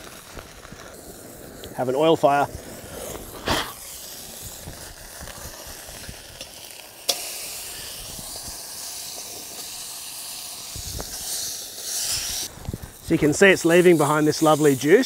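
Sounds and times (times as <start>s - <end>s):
steak sizzling in oil: 0.0s - 15.0s.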